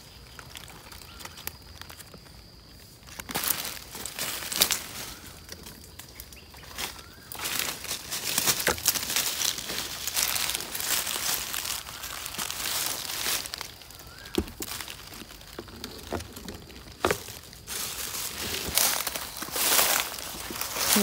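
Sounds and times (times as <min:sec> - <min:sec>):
leaf litter rustling and crackling: 0:00.0 - 0:21.0.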